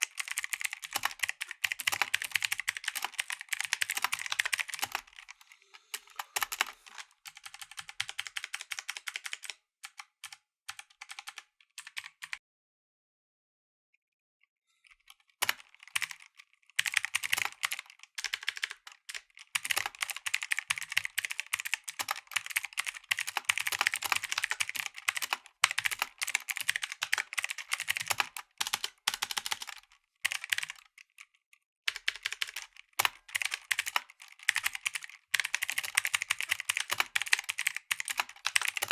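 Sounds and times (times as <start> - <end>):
mechanical keyboard typing: 0.0 - 12.4, 14.9 - 38.9.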